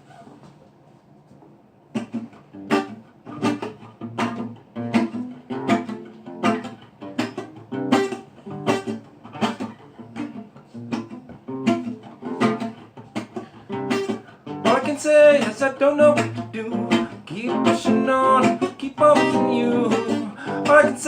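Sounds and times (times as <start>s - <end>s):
acoustic guitar strumming: 1.9s - 21.0s.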